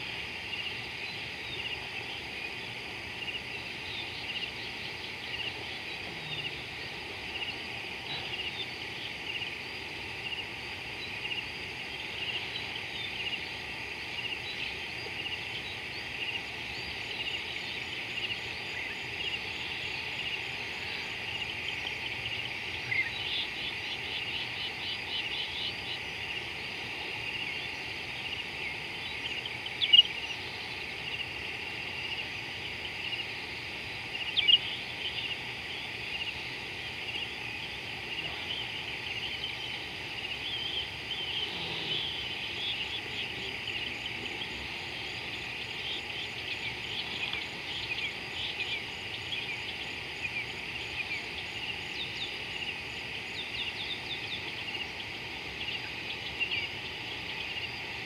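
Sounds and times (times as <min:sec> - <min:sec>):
insects chirring: 0:00.0 - 0:58.0
loud bird calls: 0:00.0 - 0:58.0.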